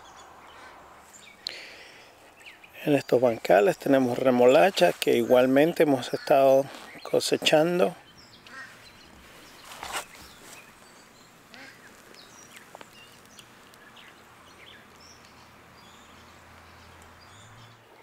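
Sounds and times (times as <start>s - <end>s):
faint birdsong chirps: 0.0s - 18.0s
rustle: 0.0s - 18.0s.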